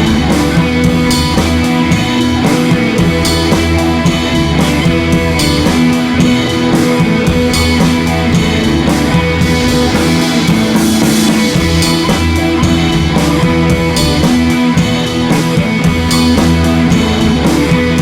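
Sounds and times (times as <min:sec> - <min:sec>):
instrumental music with guitar and drums: 0:00.0 - 0:18.0.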